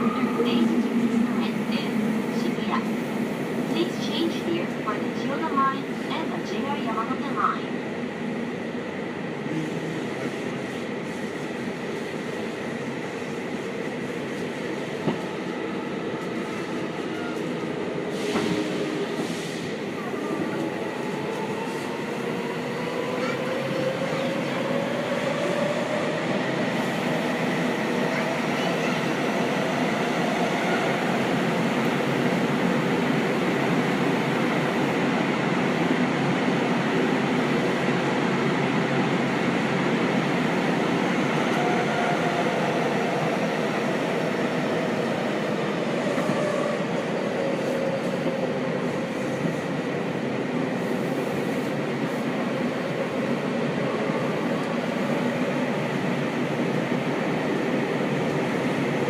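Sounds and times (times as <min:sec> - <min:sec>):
train wheel and running noise: 0:00.0 - 0:59.0.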